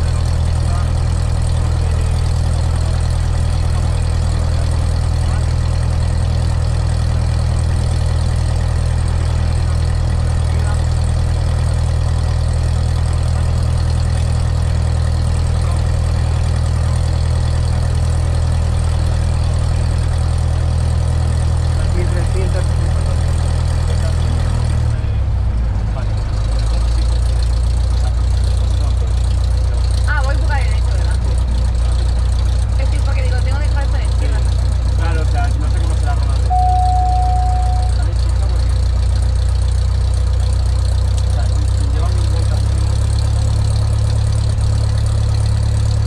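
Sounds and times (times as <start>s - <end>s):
propeller plane engine drone: 0.0s - 46.0s.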